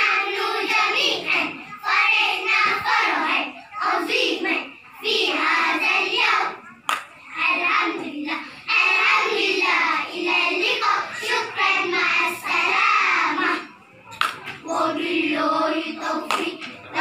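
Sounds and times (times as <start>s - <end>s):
children chanting in unison: 0.0s - 13.9s, 14.6s - 17.0s.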